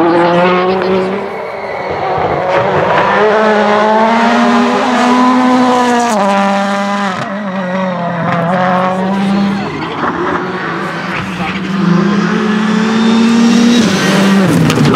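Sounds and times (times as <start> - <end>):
rally car engine revving past: 1.9 - 14.9.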